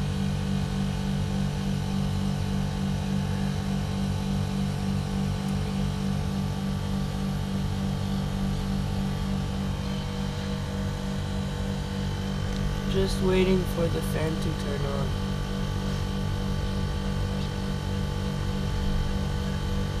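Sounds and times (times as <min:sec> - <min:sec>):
low compressor hum: 0:00.0 - 0:20.0.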